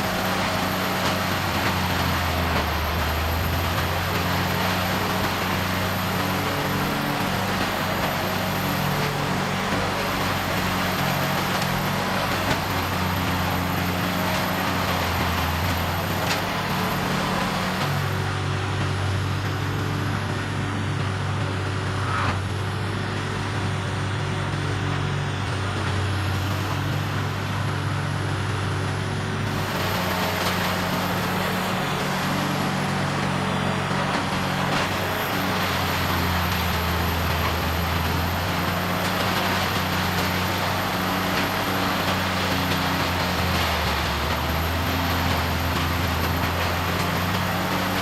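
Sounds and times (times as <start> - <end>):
diesel engine drone: 0.0 - 48.0
wood grinding machine grinding: 0.0 - 48.0.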